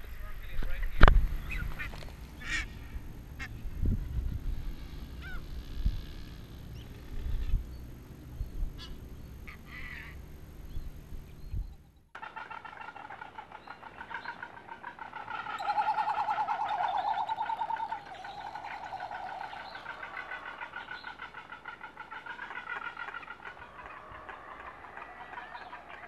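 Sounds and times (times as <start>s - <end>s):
birds pulsing warbling calls: 0.2s - 26.0s.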